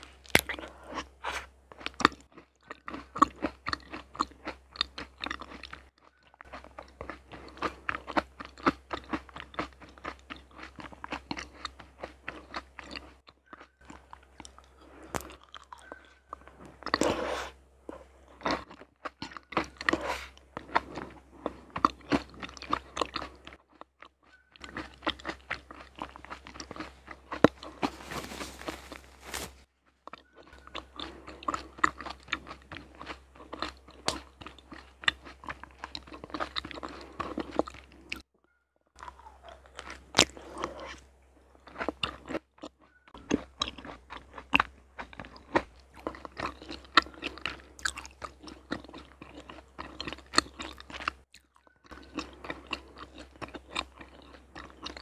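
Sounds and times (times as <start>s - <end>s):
chewing honeycomb: 0.0s - 38.3s, 38.9s - 55.0s.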